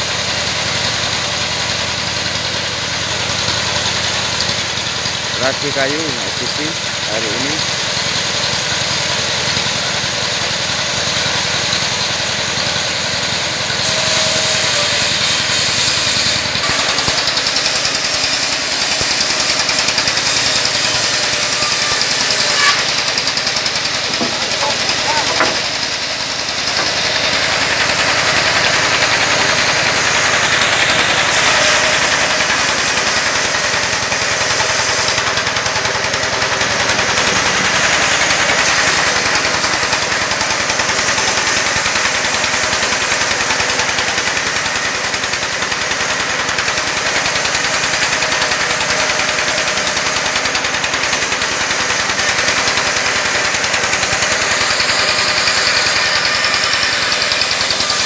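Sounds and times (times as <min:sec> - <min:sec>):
band saw running: 0:00.0 - 0:58.0
stationary engine knocking: 0:00.0 - 0:58.0.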